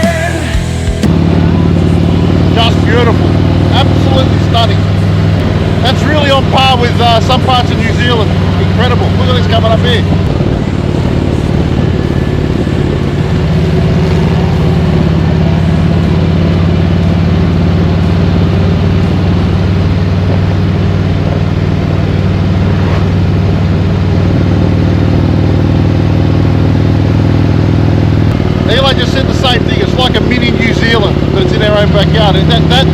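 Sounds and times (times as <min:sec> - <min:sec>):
motorcycle engine running: 0:00.0 - 0:32.9
wind and road noise: 0:00.0 - 0:32.9.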